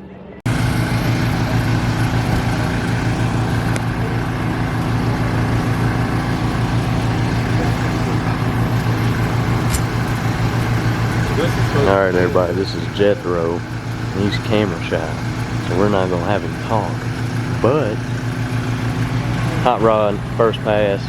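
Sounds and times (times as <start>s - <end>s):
vehicle engine idling: 0.5s - 21.0s.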